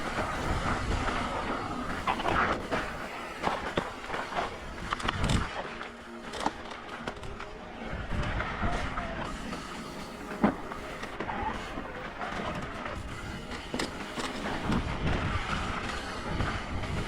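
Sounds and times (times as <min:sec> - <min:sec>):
bike tyres rumbling on dirt: 0:00.0 - 0:17.0
wind: 0:00.0 - 0:17.0.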